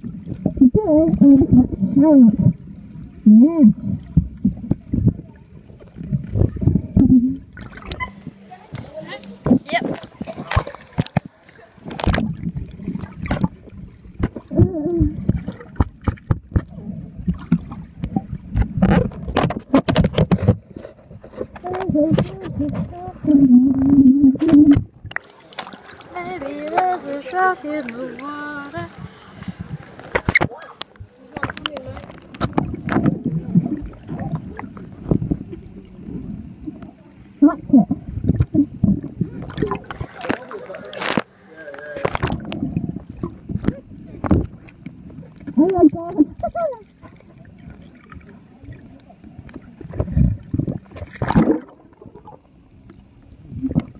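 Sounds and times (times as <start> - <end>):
water gurgling underwater: 0.0 - 53.9.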